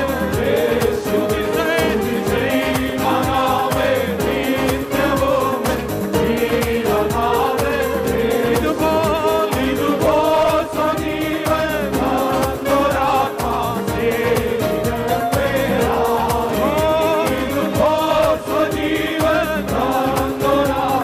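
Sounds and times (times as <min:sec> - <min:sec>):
band accompaniment with steady beat: 0:00.0 - 0:21.0
worship team singing with vibrato: 0:00.0 - 0:21.0.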